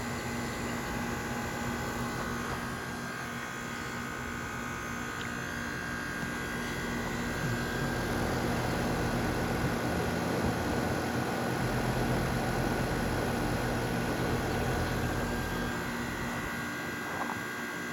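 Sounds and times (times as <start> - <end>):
heat pump fan rushing: 0.0 - 17.9
steady hum: 0.0 - 17.9.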